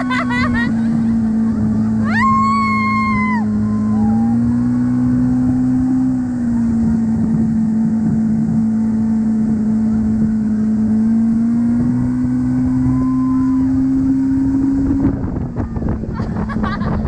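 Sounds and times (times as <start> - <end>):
motorboat engine running: 0.0 - 17.0
rushing wind: 0.0 - 17.0
water noise: 0.0 - 17.0.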